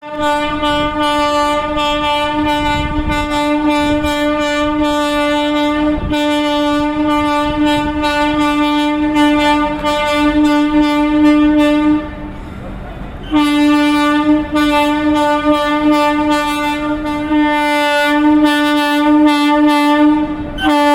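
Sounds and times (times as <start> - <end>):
locomotive horn blast: 0.0 - 12.6, 13.2 - 20.9.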